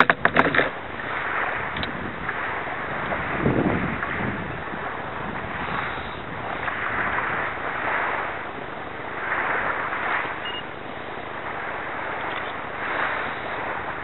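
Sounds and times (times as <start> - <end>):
water splashing around a kayak: 0.0 - 14.0
wind hiss on microphone: 0.0 - 14.0.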